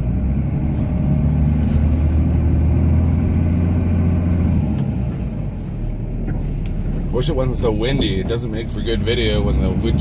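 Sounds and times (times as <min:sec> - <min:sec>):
diesel engine running under load: 0:00.0 - 0:10.0.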